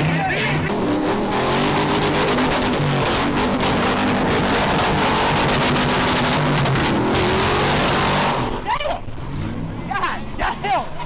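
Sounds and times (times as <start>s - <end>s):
car engine at high revs: 0.0s - 10.4s.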